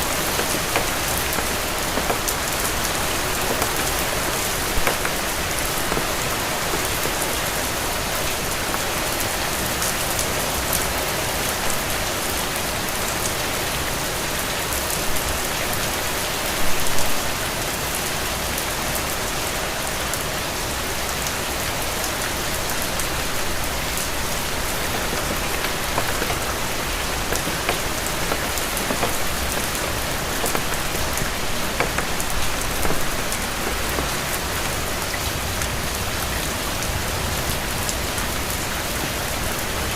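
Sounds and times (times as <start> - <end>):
raindrops pattering close by: 0.0 - 39.9
steady rain falling: 0.0 - 39.9.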